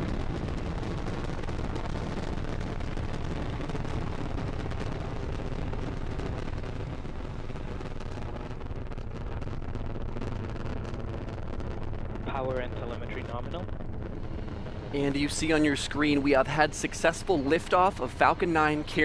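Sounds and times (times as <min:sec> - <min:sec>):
rocket engines rumbling and crackling: 0:00.0 - 0:19.0.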